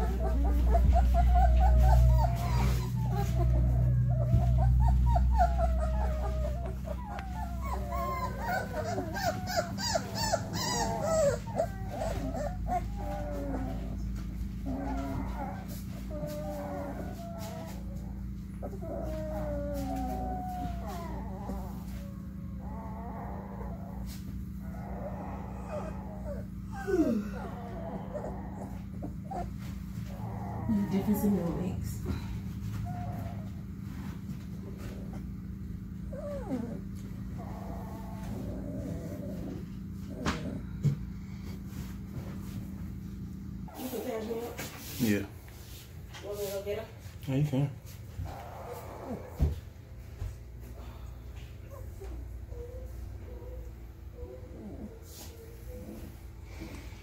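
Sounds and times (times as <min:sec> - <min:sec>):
puppies whimpering and whining: 0:00.0 - 0:46.8, 0:47.8 - 0:57.0
steady low hum: 0:00.0 - 0:57.0.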